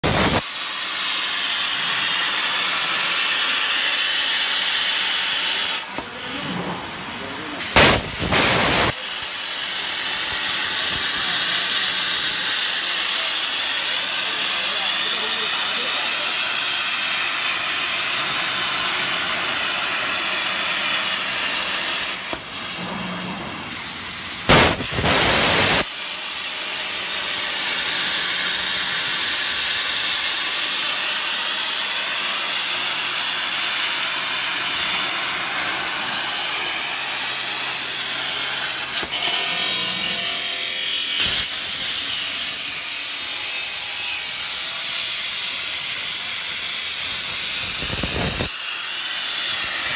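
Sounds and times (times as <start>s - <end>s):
plasma torch cutting steel: 0.0s - 49.9s.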